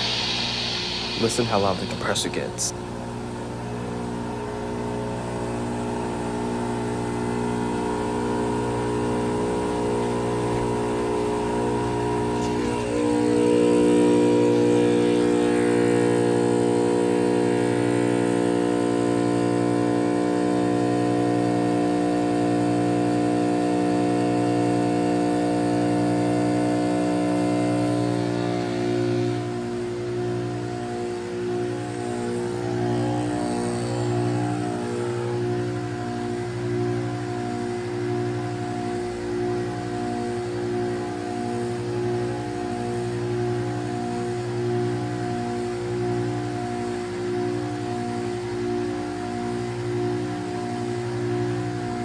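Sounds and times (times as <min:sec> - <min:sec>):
heat pump compressor humming: 0:00.0 - 0:47.9.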